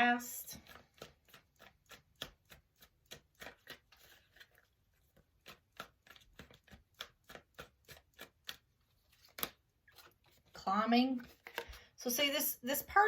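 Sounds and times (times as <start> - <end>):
cards being shuffled: 0.6 - 12.0.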